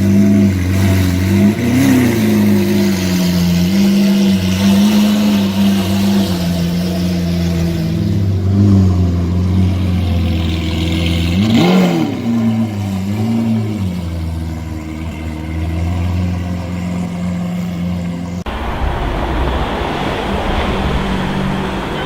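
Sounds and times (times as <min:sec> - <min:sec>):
car engine idling and revving: 0:00.0 - 0:22.0
street traffic noise: 0:00.0 - 0:22.0.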